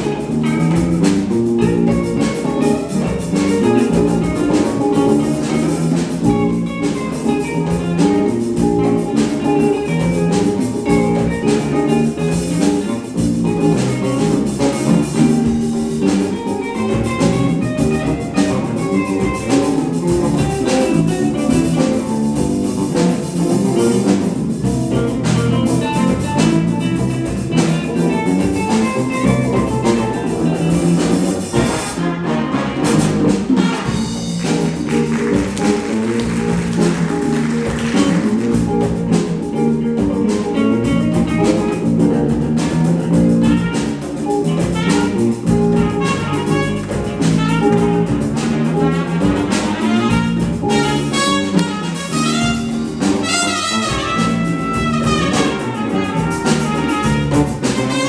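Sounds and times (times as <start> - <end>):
conga drums: 0.0 - 58.0
drum kit: 0.0 - 58.0
electric bass: 0.0 - 58.0
electric guitar: 0.0 - 58.0
funk jazz band playing: 0.0 - 58.0.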